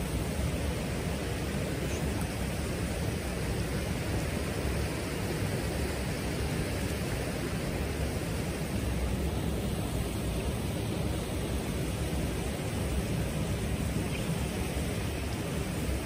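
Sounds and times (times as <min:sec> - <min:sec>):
flowing water: 0:00.0 - 0:16.0.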